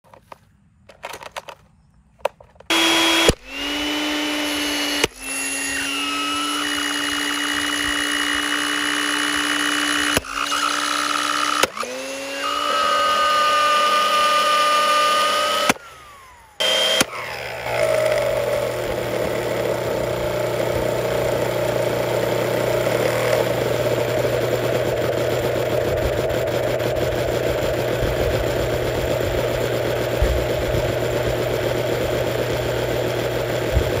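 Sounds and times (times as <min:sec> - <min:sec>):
blender motor whining: 0:02.7 - 0:34.0.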